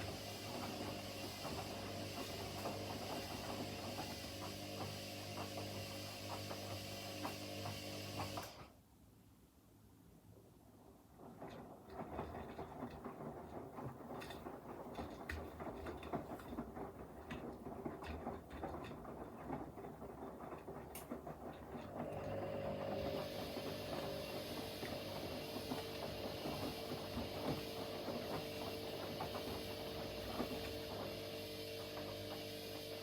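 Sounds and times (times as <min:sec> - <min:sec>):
washing machine drum tumbling: 0:00.0 - 0:08.4, 0:11.1 - 0:33.0
washing machine motor hum: 0:00.0 - 0:08.8, 0:10.8 - 0:33.0.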